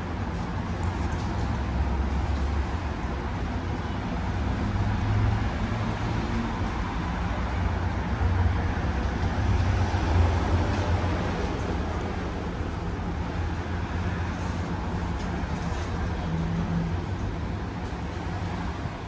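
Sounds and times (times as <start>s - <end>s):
tram running gear rumble: 0.0s - 19.0s.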